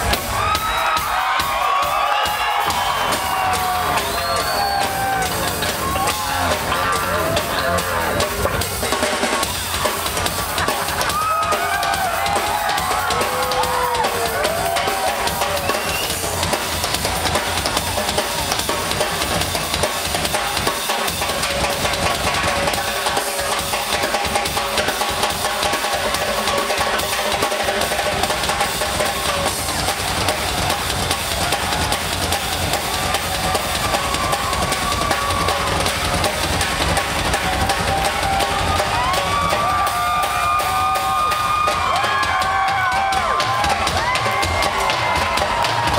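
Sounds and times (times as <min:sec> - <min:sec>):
rock drum solo: 0:00.0 - 0:45.9.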